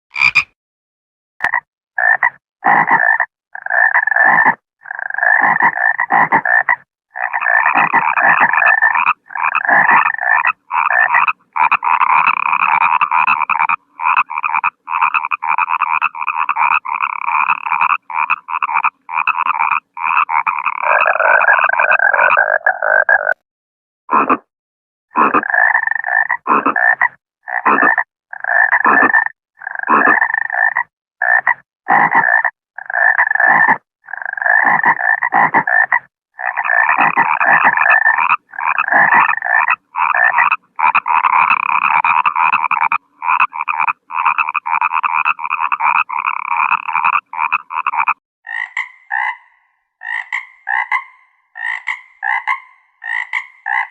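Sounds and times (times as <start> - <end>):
frog croaking: 0.2 - 0.5, 1.4 - 23.4, 24.1 - 24.5, 25.1 - 53.9.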